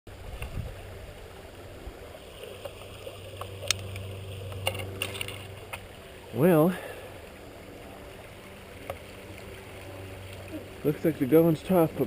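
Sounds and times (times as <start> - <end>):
river rushing: 0.1 - 12.0.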